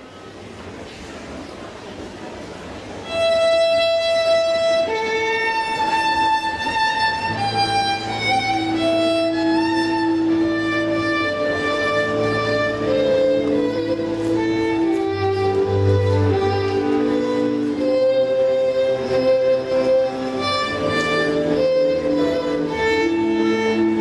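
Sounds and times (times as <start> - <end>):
melody of long held notes: 3.0 - 24.0.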